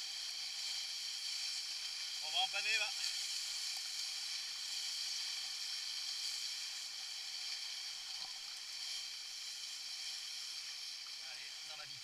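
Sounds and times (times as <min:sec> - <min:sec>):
water rushing along a hull: 0:00.0 - 0:12.0.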